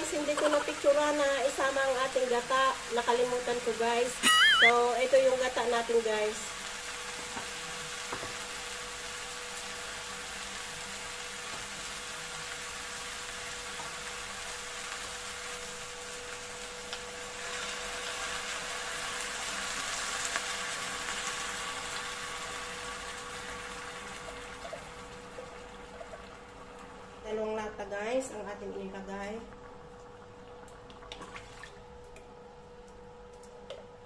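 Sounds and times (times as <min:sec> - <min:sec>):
chicken frying with hissing: 0:00.0 - 0:30.3.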